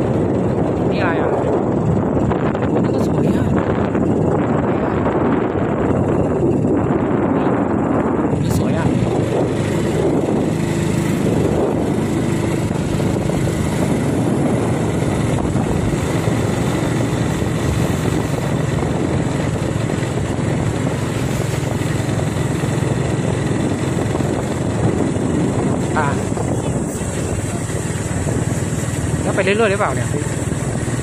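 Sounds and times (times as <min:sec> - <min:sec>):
road noise: 0:00.0 - 0:31.0
vehicle engine drone: 0:00.0 - 0:31.0.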